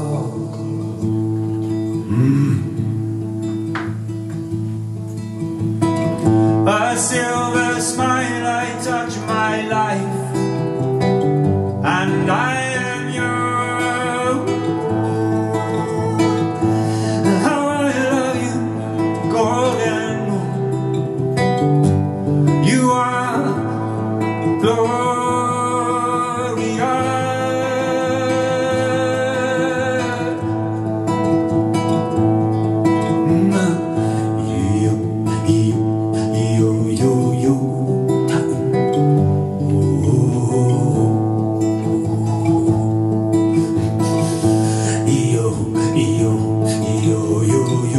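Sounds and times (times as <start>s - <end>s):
man singing: 0.0s - 1.3s, 1.9s - 3.1s, 6.2s - 31.6s, 32.8s - 47.9s
acoustic guitar: 0.0s - 47.9s.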